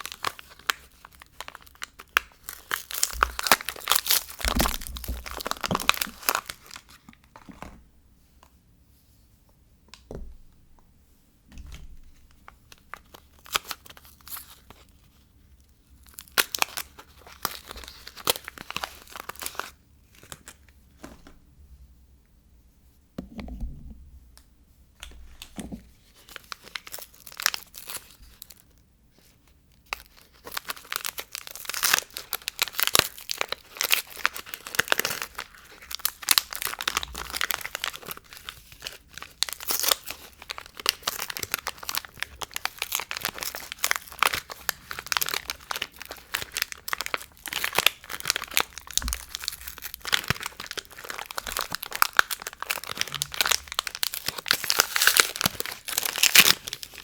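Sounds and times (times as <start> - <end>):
wrapper crinkling and tearing: 0.0 - 7.4, 12.2 - 15.2, 15.9 - 20.7, 25.3 - 57.0.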